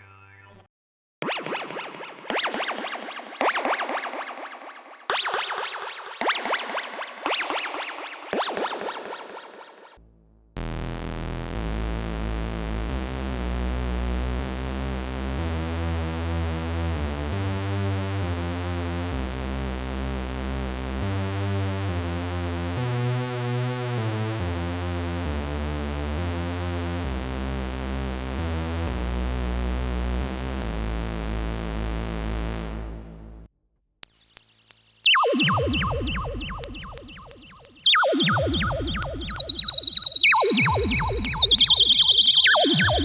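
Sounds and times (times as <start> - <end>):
synthesizer bass line: 1.2 - 43.0.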